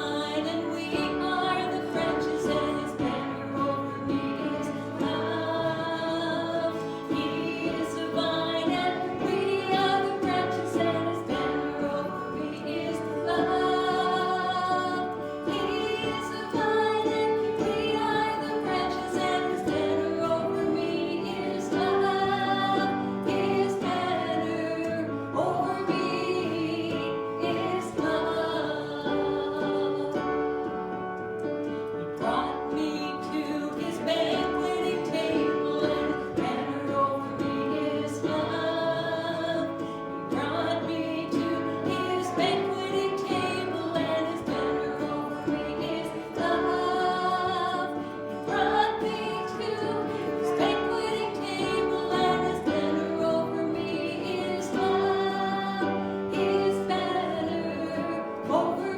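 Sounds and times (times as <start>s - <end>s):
instrumental accompaniment: 0.0s - 58.9s
voices singing slow melody: 0.0s - 58.9s.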